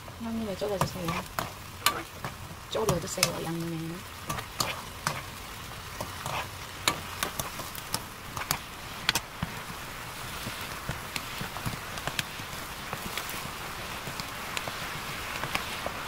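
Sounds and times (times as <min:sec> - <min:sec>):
sauce sizzling in a frying pan: 0:00.0 - 0:16.0.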